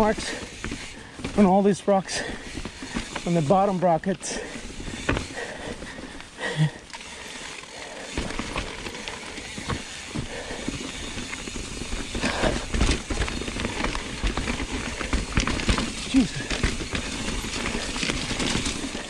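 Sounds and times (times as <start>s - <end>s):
bike rattling knocks and clicks: 0.0s - 19.0s
bike tyres crunching on dirt: 0.0s - 19.0s.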